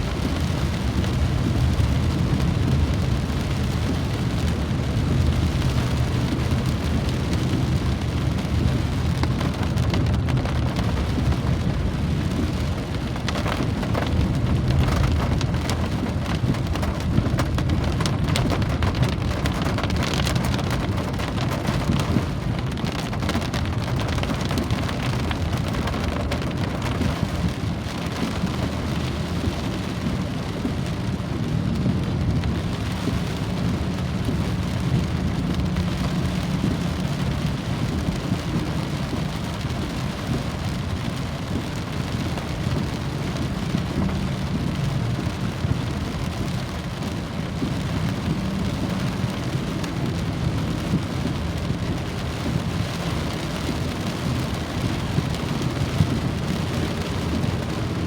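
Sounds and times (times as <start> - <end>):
constant deep rumble: 0.0 - 58.0
rain drops pattering: 0.0 - 58.0.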